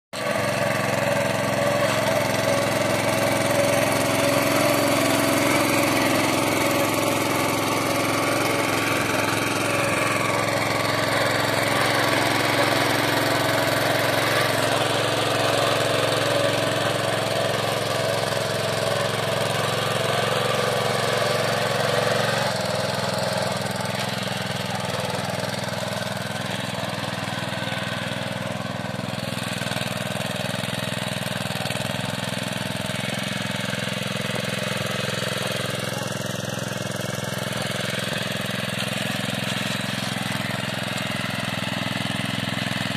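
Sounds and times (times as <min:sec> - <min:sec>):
tiller engine running under load: 0:00.2 - 0:42.9.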